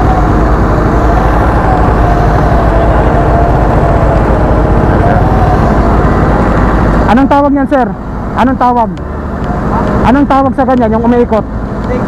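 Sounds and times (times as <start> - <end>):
diesel construction machinery rumbling: 0.0 - 12.0.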